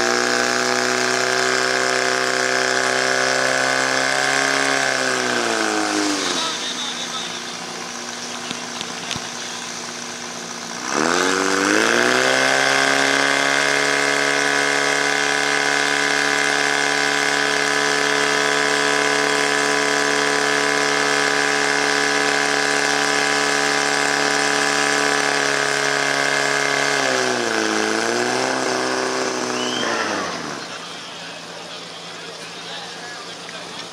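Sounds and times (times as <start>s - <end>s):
fire pump engine revving: 0.0s - 33.9s.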